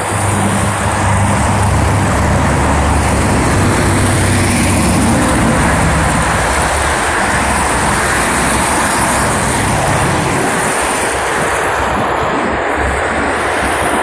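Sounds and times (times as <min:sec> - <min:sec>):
cars and buses passing: 0:00.0 - 0:14.0.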